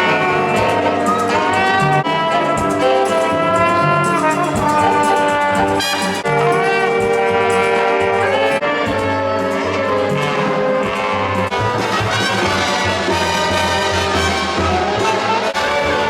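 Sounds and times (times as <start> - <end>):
live brass band playing: 0.0 - 16.0.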